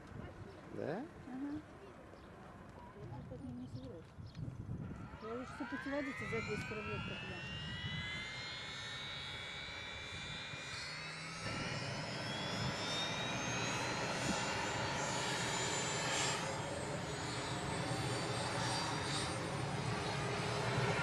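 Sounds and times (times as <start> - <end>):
helicopter turbine whine rising: 3.2 - 21.0.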